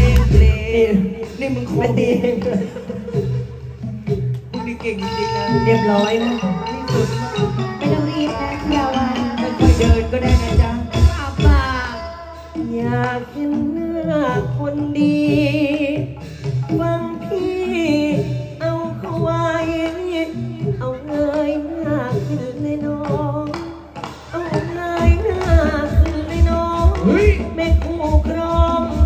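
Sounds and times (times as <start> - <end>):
person singing with vibrato: 0.0 - 3.9, 4.5 - 29.0
instrumental accompaniment: 0.0 - 29.0.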